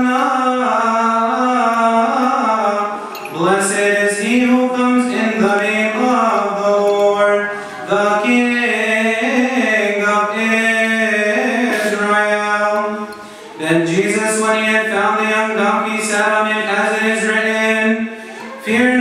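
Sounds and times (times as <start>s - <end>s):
man chanting liturgical melody: 0.0s - 19.0s.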